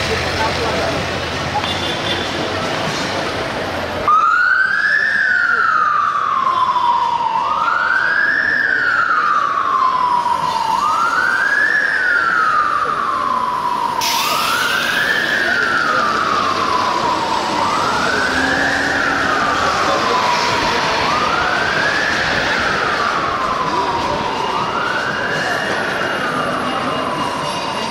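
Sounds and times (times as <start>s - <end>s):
traffic noise: 0.0s - 27.9s
police siren wailing: 4.0s - 27.9s.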